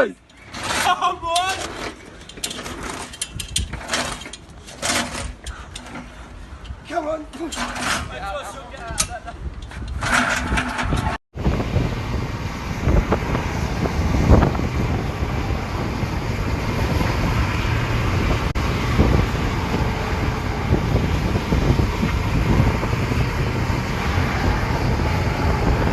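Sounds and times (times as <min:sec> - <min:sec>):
vehicle rumbling: 0:00.0 - 0:25.9
wind buffeting microphone: 0:00.4 - 0:25.9.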